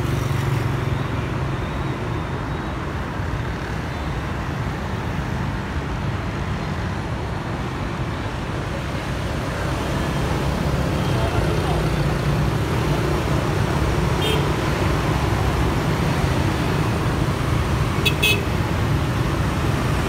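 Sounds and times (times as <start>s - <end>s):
scooters and cars passing: 0.0s - 20.0s.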